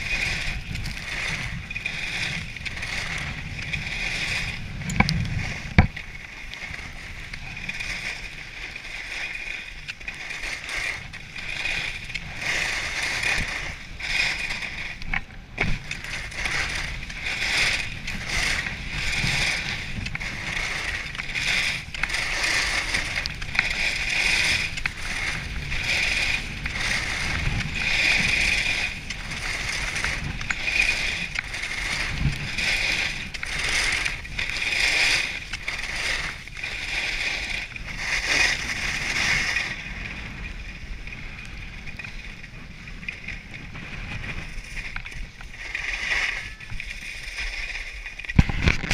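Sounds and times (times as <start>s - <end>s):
low wind rumble: 0.0s - 48.9s
skis scraping on snow: 0.0s - 48.9s.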